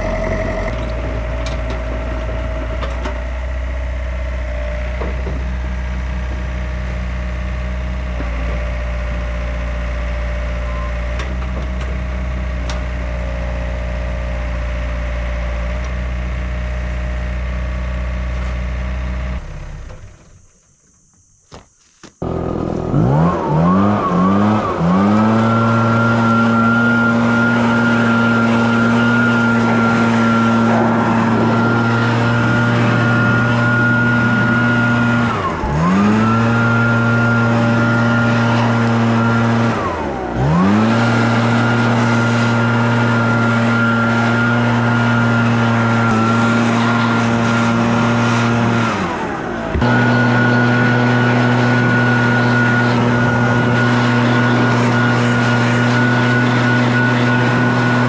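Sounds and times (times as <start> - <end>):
engine revving with whine: 0.0 - 20.5, 22.2 - 58.0
engine running: 0.0 - 20.5, 22.2 - 58.0.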